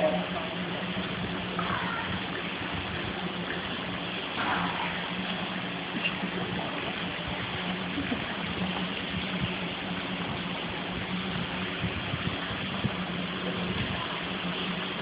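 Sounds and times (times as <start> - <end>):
low hum: 0.0 - 15.0
running water rushing: 0.0 - 15.0.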